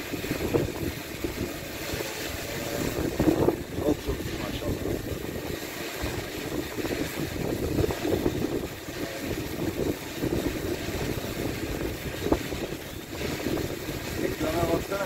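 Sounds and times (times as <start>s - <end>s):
drone propellers droning: 0.0s - 15.0s
wind buffeting microphone: 0.0s - 15.0s.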